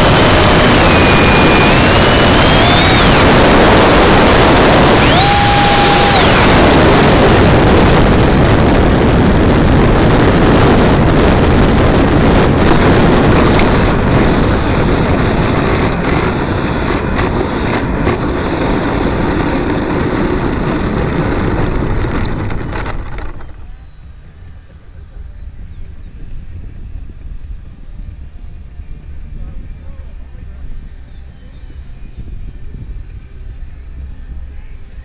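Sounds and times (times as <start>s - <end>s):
air and ducted fan rushing: 0.0s - 35.0s.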